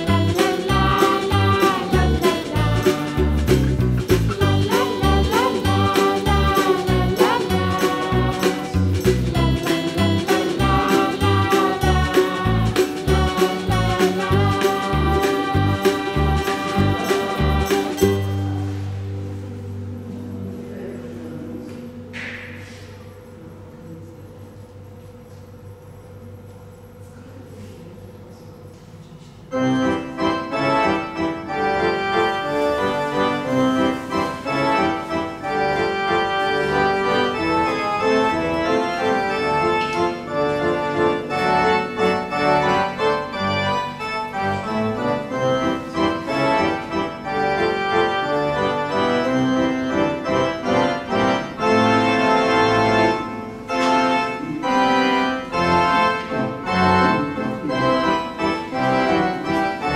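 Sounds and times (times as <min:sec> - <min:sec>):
keyboard music: 0:00.0 - 0:22.4, 0:29.5 - 0:59.9.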